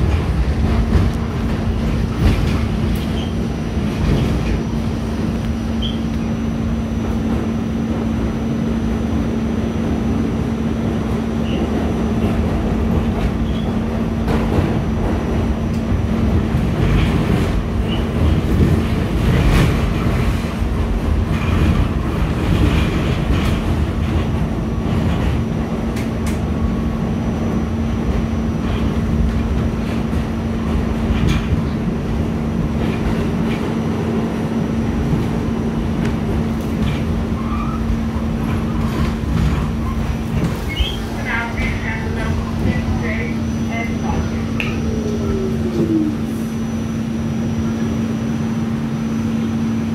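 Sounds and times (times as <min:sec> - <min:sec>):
subway car running noise: 0:00.0 - 0:49.9.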